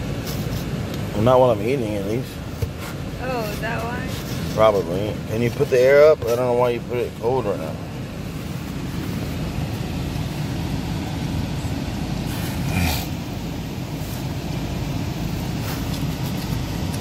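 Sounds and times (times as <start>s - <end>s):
low rumble inside car cabin: 0.0s - 17.0s.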